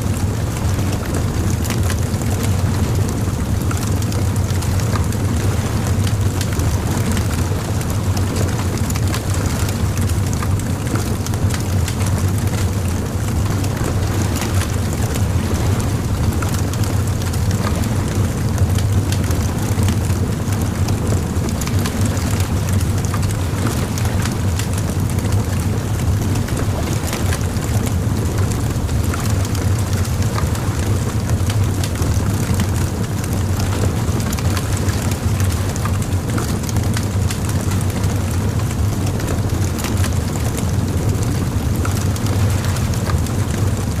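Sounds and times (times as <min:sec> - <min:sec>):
steady low rumble: 0:00.0 - 0:44.0
bonfire crackling and popping: 0:00.1 - 0:44.0.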